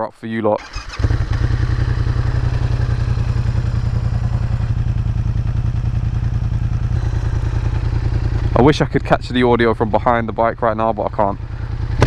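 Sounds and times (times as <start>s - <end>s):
motorcycle engine idling: 0.6s - 12.0s.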